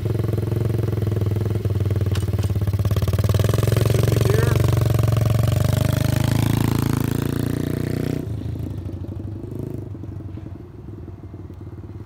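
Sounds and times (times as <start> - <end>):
motorbike engine riding away: 0.0 - 12.0.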